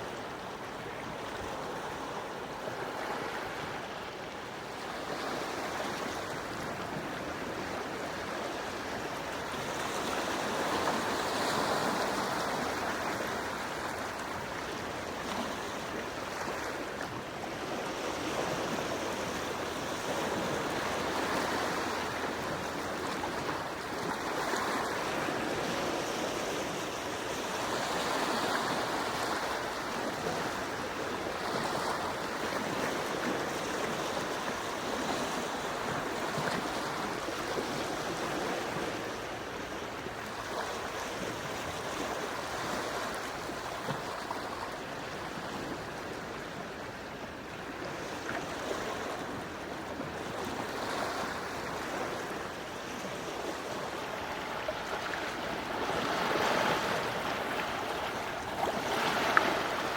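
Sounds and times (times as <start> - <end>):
calm sea waves washing ashore: 0.0 - 59.9.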